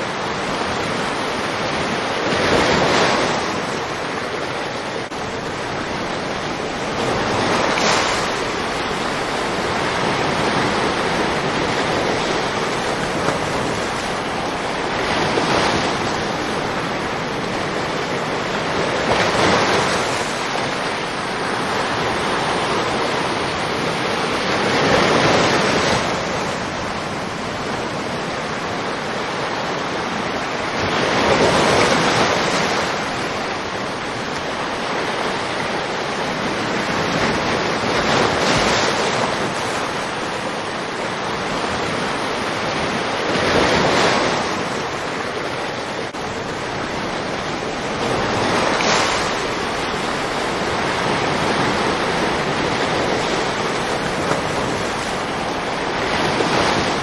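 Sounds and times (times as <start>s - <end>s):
surf breaking on a sandy beach: 0.0s - 57.0s.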